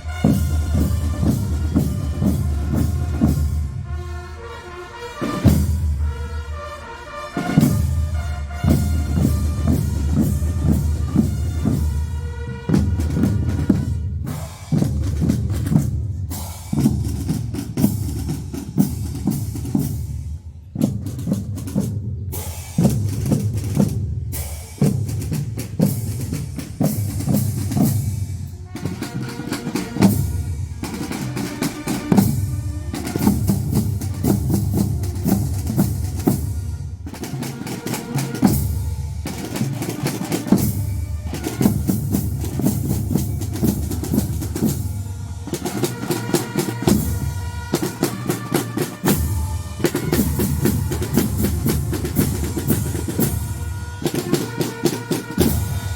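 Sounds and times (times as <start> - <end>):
snare drums and rolls: 0.0 - 4.4, 5.1 - 20.1, 20.8 - 55.9.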